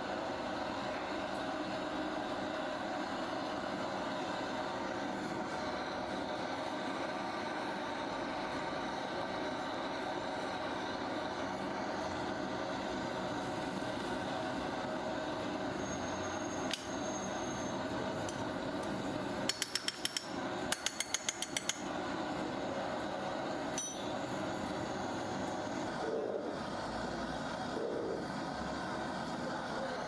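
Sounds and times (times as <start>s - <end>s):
steady mechanical drone: 0.0s - 30.0s.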